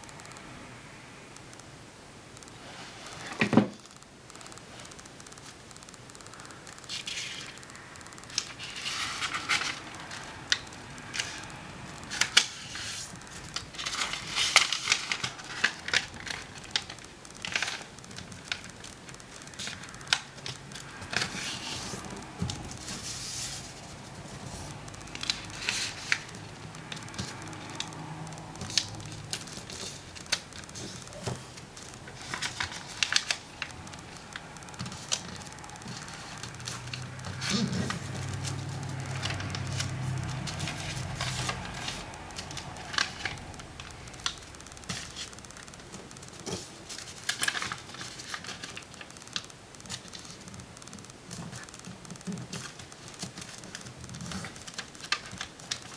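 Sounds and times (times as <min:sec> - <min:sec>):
paper crackling as creased: 0:04.3 - 0:55.9
paper rustling and crinkling: 0:06.8 - 0:07.7, 0:08.3 - 0:55.9.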